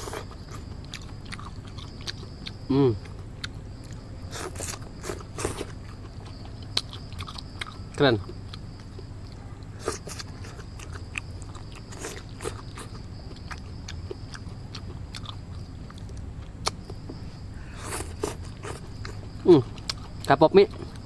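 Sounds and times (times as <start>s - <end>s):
chewing twigs and leaves: 0.0s - 21.0s.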